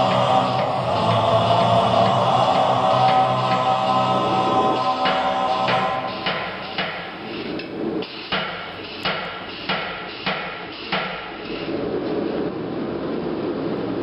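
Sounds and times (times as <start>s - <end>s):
hammer blows on steel anvil: 0.0s - 11.4s.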